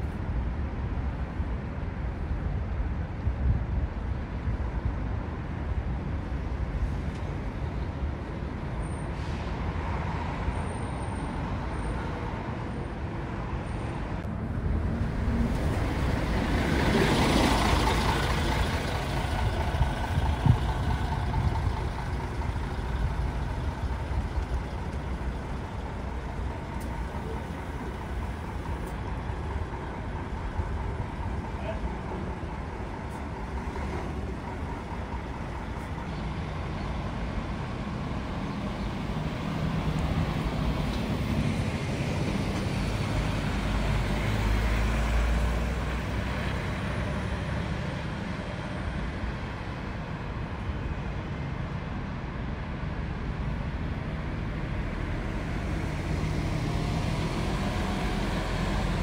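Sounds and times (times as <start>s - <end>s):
diesel bus engines rumbling: 0.0s - 59.0s.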